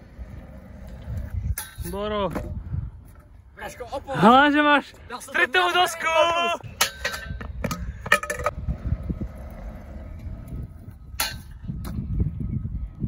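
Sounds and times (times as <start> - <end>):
scooter wheels rumbling on concrete: 0.0 - 4.4, 5.2 - 13.0.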